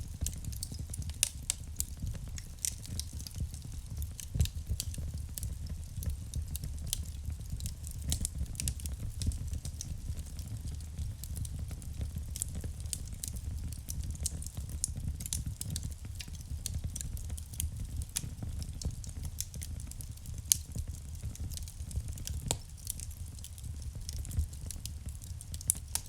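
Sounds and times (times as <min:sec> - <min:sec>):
burning logs crackling and popping: 0:00.0 - 0:26.0
low rumble of flames: 0:00.0 - 0:26.0.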